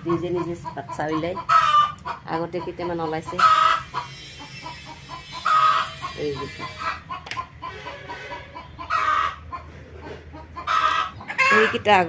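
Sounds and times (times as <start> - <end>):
hen drawn-out calls: 0.0 - 9.7, 10.4 - 12.0
hens clucking: 0.0 - 12.0.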